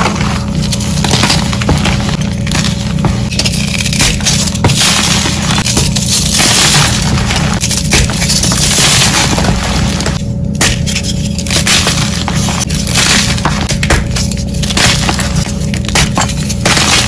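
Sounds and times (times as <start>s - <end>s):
chalk crunching and crackling: 0.0s - 17.0s
fragments falling: 0.0s - 17.0s.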